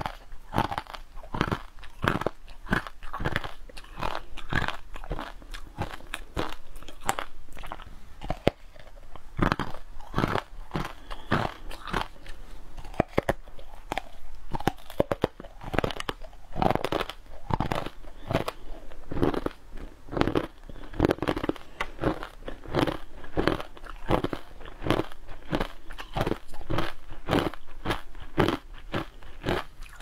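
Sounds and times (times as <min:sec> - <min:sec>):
crunching and chewing food: 0:00.0 - 0:30.0.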